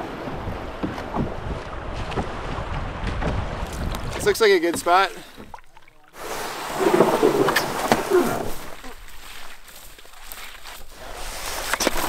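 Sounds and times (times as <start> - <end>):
canoe hull scraping through brush: 0.3 - 12.0.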